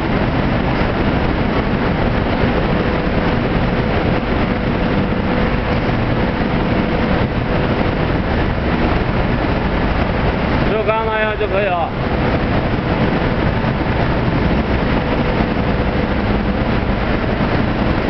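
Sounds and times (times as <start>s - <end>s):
coating line machinery running: 0.0s - 18.0s
faint steady whine: 0.0s - 18.0s.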